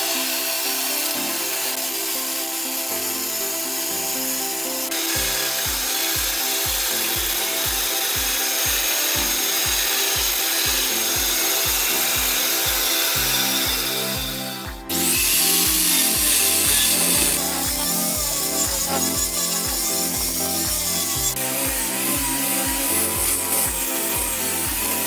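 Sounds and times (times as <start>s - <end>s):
background music with steady beat: 0.0s - 25.0s
tool rasping wood: 4.8s - 25.0s.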